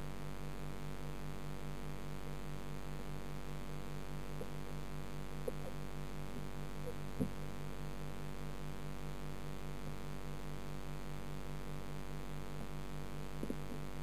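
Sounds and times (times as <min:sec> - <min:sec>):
pulsing electrical hum underwater: 0:00.0 - 0:14.0.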